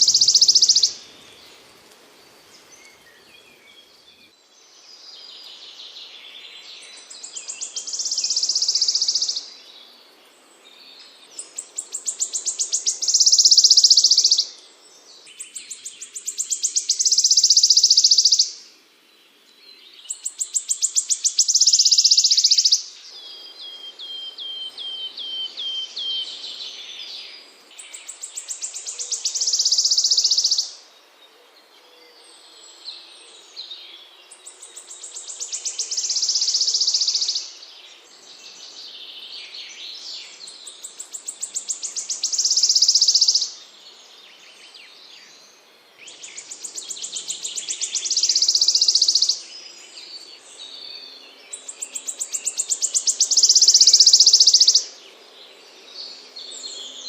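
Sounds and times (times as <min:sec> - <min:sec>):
songbird singing buzzy trill: 0:00.0 - 0:18.7, 0:19.4 - 0:57.0.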